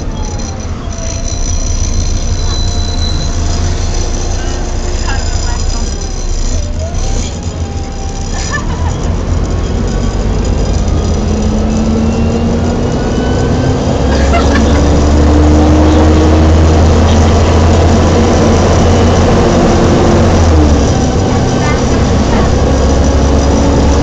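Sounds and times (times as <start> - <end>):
bus gearbox whine: 0.0 - 24.0
diesel engine and fan drone: 0.0 - 24.0.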